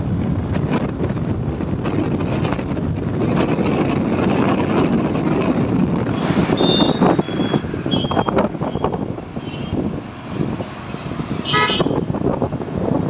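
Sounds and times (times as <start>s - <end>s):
motorcycle engine and road noise: 0.0s - 13.0s
wind buffeting microphone: 0.0s - 13.0s.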